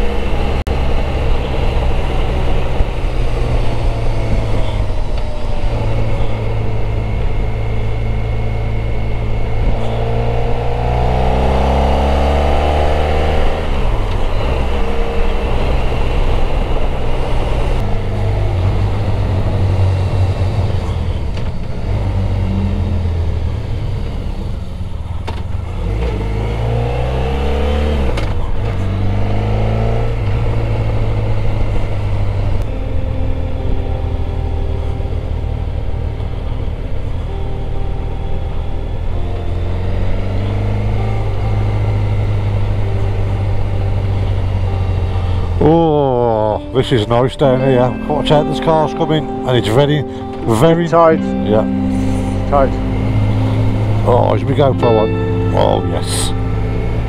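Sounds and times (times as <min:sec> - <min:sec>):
motorcycle engine running: 0:00.0 - 0:49.4, 0:50.0 - 0:57.0.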